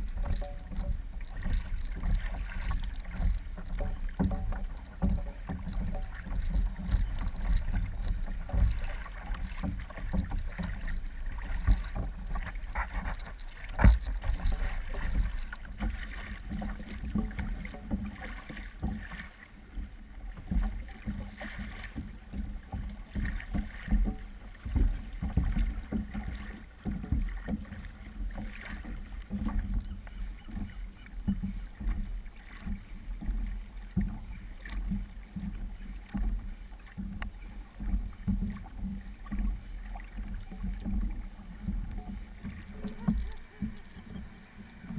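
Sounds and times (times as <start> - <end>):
water slapping against kayak hull: 0.0 - 44.9.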